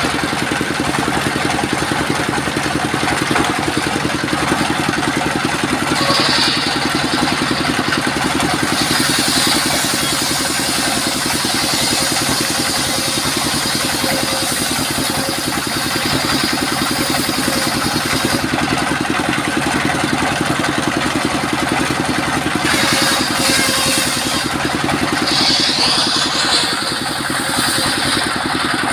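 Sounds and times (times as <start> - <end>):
saw blade cutting timber: 0.0 - 28.9
sawmill engine running: 0.0 - 28.9.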